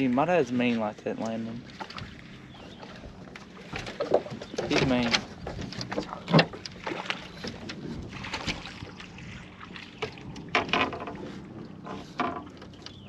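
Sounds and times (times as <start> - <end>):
wind and water hiss: 0.0 - 13.0.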